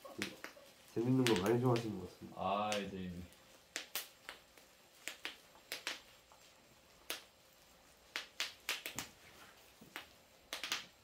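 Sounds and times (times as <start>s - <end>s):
bubble wrap popping: 0.0s - 11.0s.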